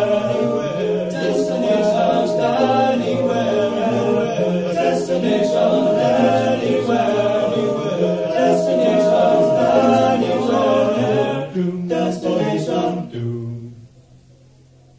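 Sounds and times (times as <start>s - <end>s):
male a cappella group singing: 0.0s - 13.8s.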